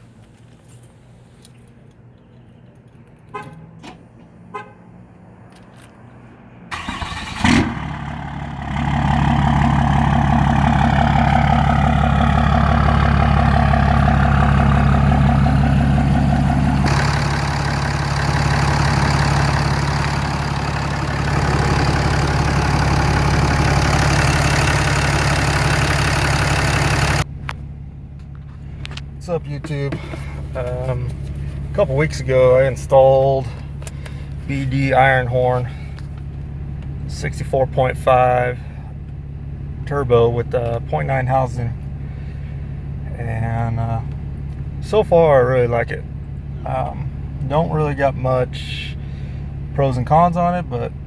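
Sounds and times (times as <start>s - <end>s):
diesel engine cranking and running: 6.7s - 51.0s.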